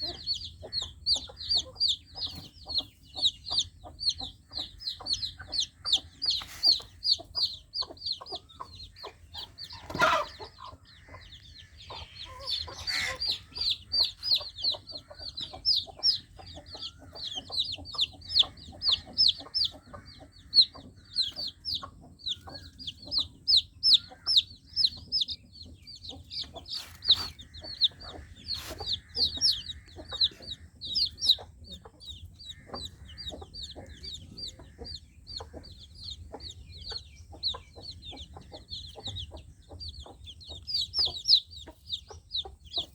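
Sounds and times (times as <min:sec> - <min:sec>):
baby chicks peeping: 0:00.0 - 0:42.9.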